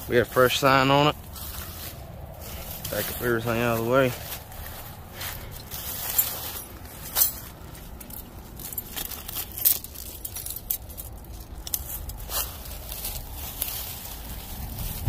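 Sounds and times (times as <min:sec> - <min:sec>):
low rustling of brush: 0:00.0 - 0:15.0.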